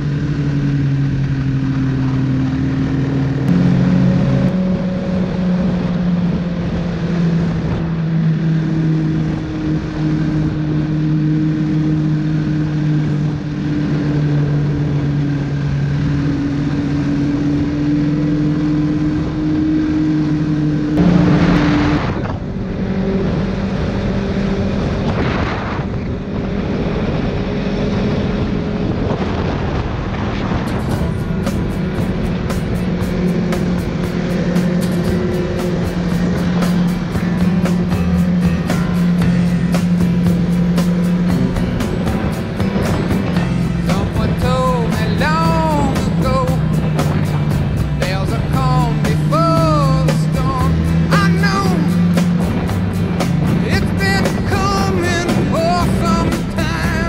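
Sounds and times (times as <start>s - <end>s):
loud rush of noise: 0.0s - 57.0s
snowmobile engine running: 0.0s - 57.0s.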